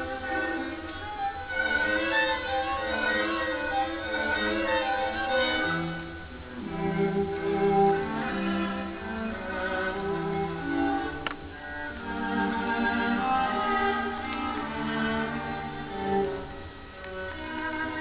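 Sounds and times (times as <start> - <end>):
deep cello line: 0.0 - 18.0
slow violin melody: 0.0 - 18.0
sustained low string notes: 0.0 - 18.0.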